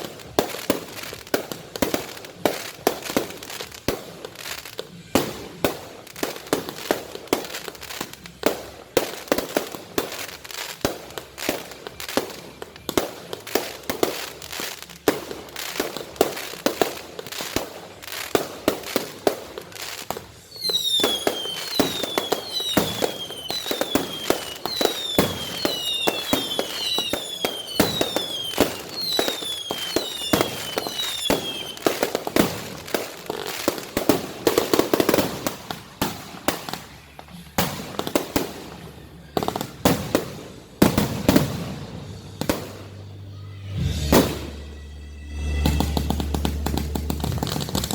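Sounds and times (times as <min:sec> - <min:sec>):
fireworks bangs and crackles: 0:00.0 - 0:47.9
whistling fireworks: 0:00.0 - 0:47.9.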